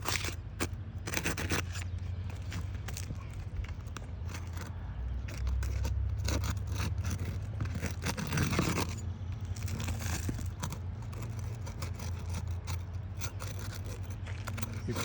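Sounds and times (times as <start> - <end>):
crowbar scraping shingles: 0.0 - 15.0.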